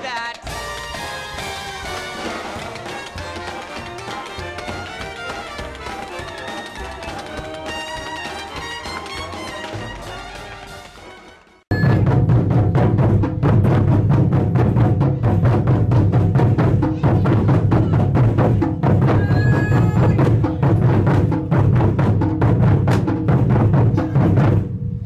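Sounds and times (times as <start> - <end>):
taiko drums beating: 0.0 - 10.7, 11.7 - 24.9.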